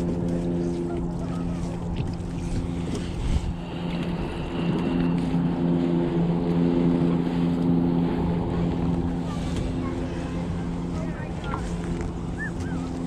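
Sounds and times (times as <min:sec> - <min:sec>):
motorboat engine humming: 0:00.0 - 0:13.0
water noise: 0:00.0 - 0:13.0
wind: 0:00.0 - 0:13.0.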